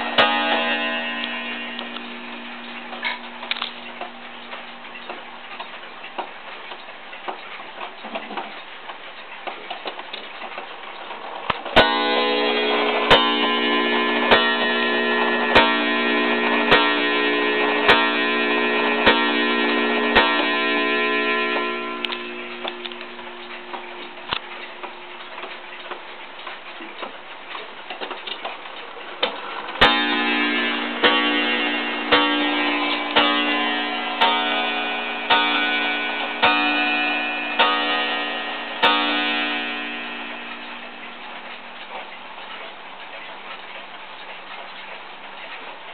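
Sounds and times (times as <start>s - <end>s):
wall clock striking: 0.0s - 8.6s, 11.7s - 42.4s
pendulum clock ticking: 0.0s - 45.9s.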